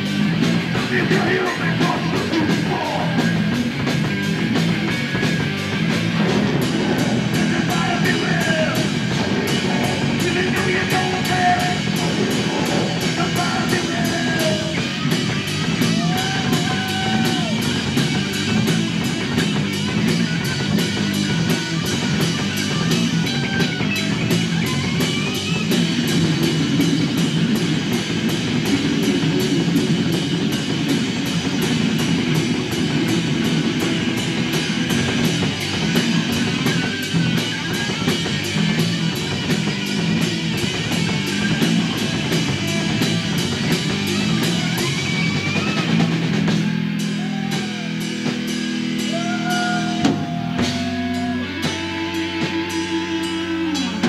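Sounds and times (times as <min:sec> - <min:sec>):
bass guitar: 0:00.0 - 0:54.0
distorted electric guitars: 0:00.0 - 0:54.0
drum kit with cymbals: 0:00.0 - 0:54.0.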